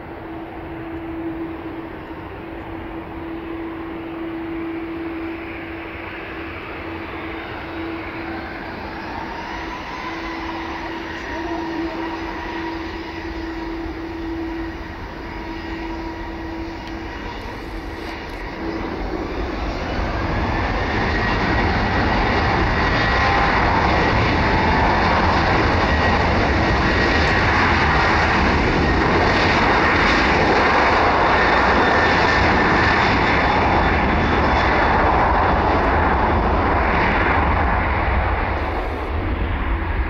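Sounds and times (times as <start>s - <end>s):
jet engines at takeoff: 0.0s - 40.0s.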